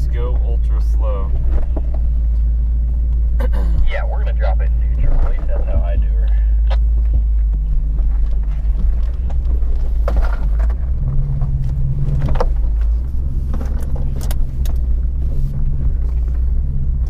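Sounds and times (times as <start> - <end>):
car engine running low: 0.0 - 17.0.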